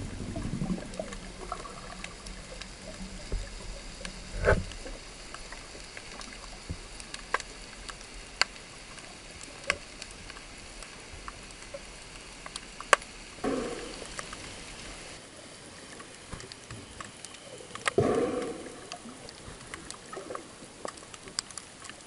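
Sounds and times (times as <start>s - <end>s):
underwater hiss: 0.0s - 16.6s, 17.5s - 21.2s
sharp underwater clicks: 0.2s - 15.1s, 16.0s - 22.0s.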